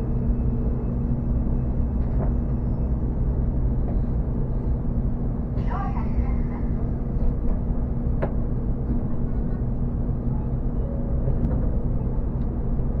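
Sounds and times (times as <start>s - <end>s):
train car low hum: 0.0s - 13.0s.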